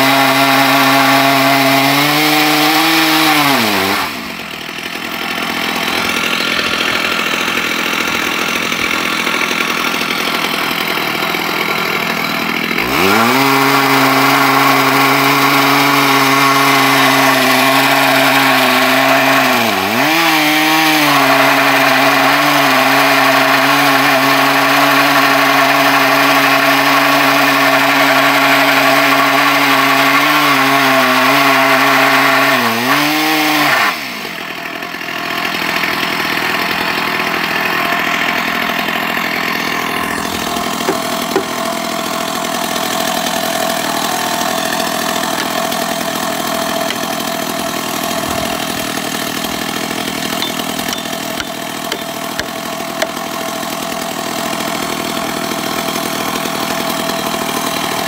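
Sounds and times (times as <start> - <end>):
chainsaw ripping through log: 0.0 - 58.0.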